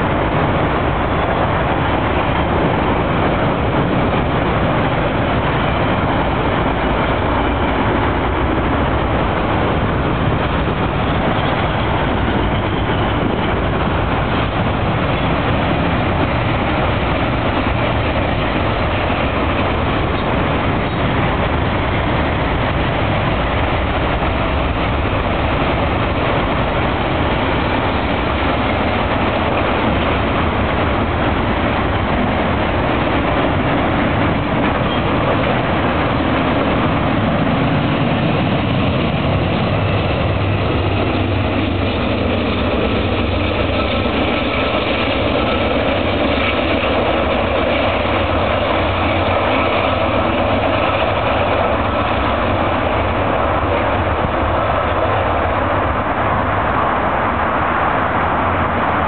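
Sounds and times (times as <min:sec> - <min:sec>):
train rumbling and clattering: 0:00.0 - 0:59.0.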